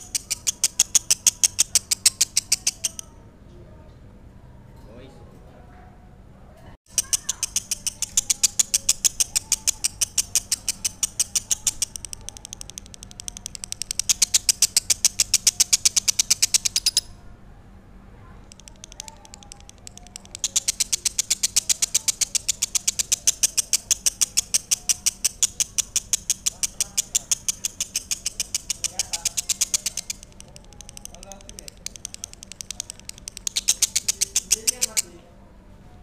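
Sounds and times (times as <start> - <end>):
bird rapid high chirps: 0.0 - 3.0, 6.9 - 17.2, 18.5 - 35.2.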